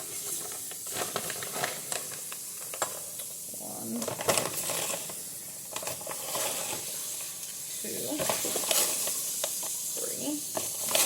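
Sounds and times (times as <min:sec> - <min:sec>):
spoon scooping sugar: 0:00.0 - 0:11.0
steady hiss: 0:00.0 - 0:11.0.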